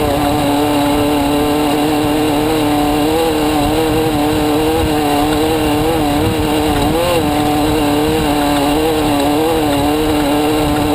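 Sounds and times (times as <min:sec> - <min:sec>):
vehicle engine running: 0:00.0 - 0:10.9.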